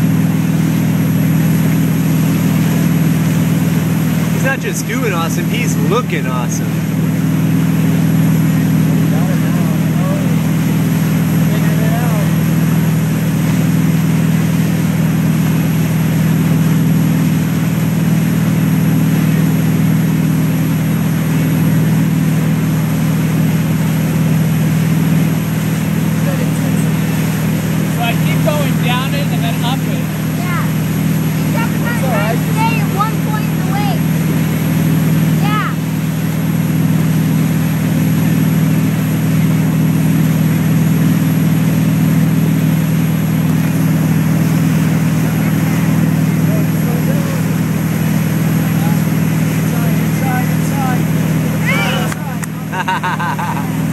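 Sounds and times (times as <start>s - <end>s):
boat engine droning: 0.0s - 53.9s
wake water rushing: 0.0s - 53.9s.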